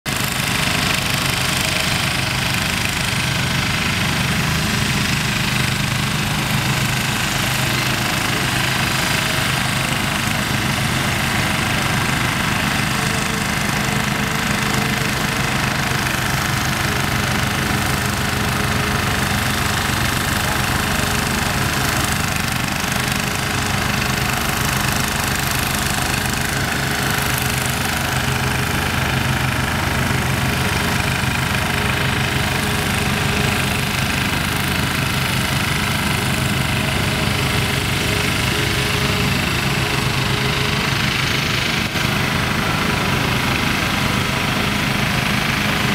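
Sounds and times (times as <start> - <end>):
heavy machine engine rumbling: 0.1 - 45.9.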